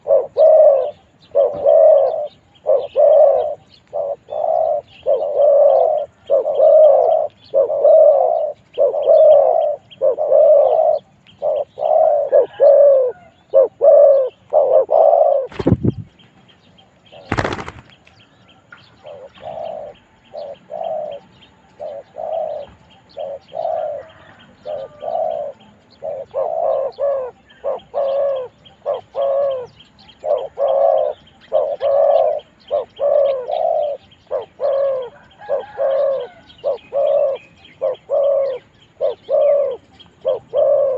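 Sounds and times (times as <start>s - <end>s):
doves cooing: 0.0s - 16.2s, 16.8s - 40.9s.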